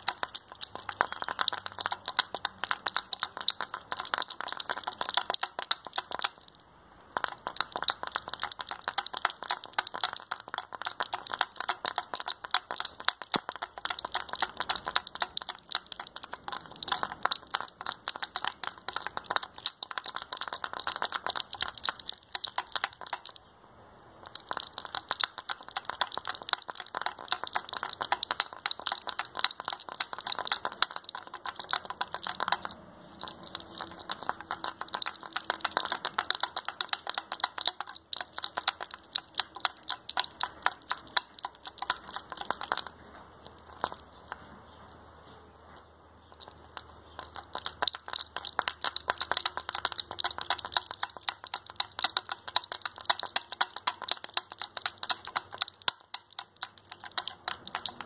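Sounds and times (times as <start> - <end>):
dried seeds rattling: 0.0 - 23.5, 24.2 - 44.8, 46.2 - 58.0.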